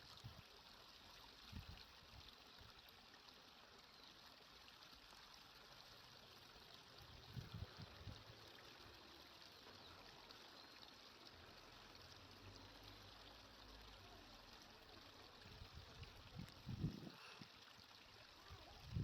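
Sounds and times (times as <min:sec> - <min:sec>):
faint flowing water hiss: 0:00.0 - 0:19.0.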